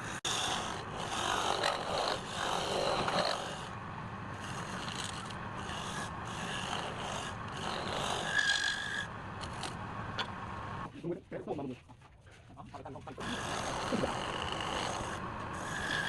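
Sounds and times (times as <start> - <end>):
tool scraping on wood: 0.1 - 3.8, 4.4 - 10.4, 11.8 - 16.0.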